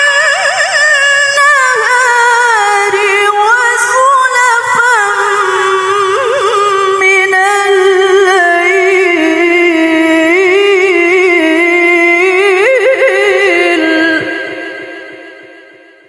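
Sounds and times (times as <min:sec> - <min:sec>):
woman reciting melodically: 0:00.0 - 0:15.2.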